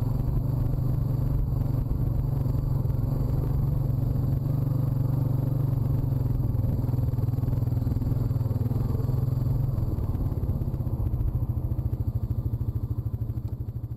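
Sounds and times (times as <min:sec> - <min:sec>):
quad bike engine running: 0:00.0 - 0:13.9.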